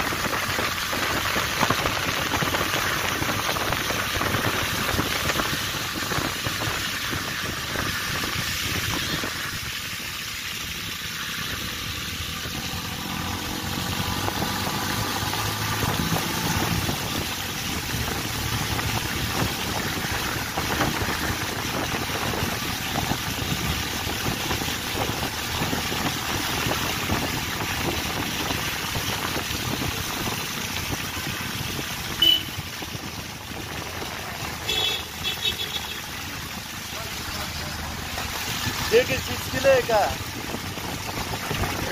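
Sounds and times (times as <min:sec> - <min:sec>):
car engines running: 0:00.0 - 0:41.9
steady wash of traffic noise: 0:00.0 - 0:41.9.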